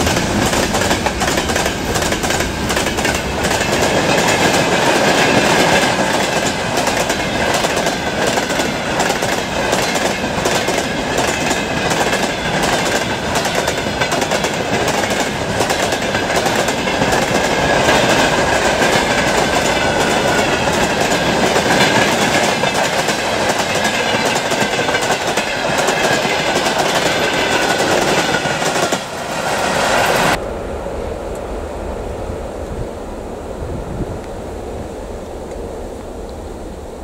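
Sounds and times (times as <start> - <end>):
train wheels clacking over rail joints: 0.0 - 30.4
wind hiss: 0.0 - 37.0.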